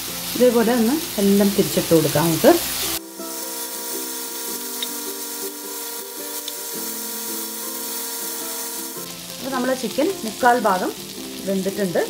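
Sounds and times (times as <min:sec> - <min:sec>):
background music: 0:00.0 - 0:12.0
chicken sizzling in oil: 0:00.0 - 0:12.0.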